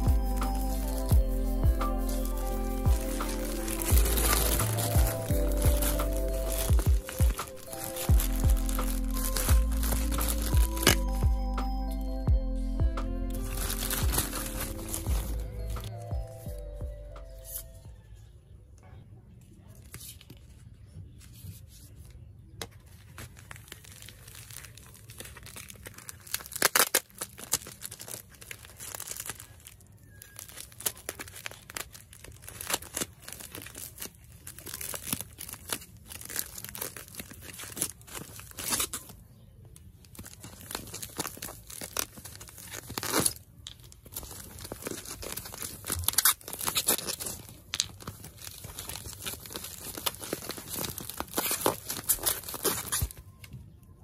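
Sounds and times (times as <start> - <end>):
plastic packaging crinkling and tearing: 0.0 - 11.4, 13.0 - 16.5, 22.6 - 53.6.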